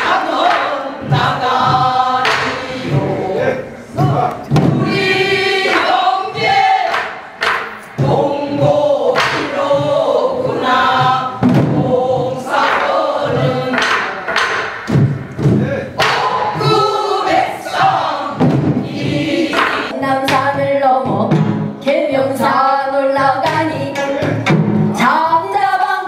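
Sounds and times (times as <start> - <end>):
folk singing with wavering notes: 0.0 - 26.0.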